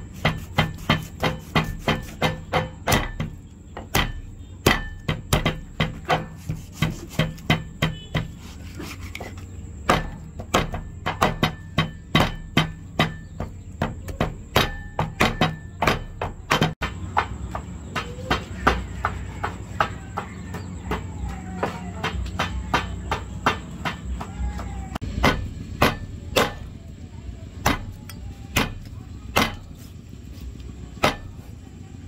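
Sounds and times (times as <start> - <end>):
cleaver chopping ribs on board: 0.0 - 26.7, 27.6 - 29.8, 31.0 - 31.4.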